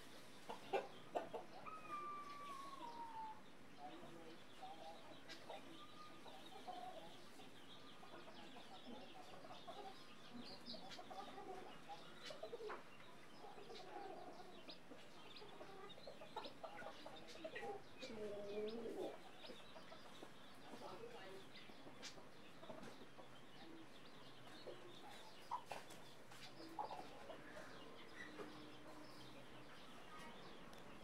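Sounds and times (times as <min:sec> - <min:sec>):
hen clucking: 0:00.0 - 0:30.6
chicks peeping: 0:00.0 - 0:31.0.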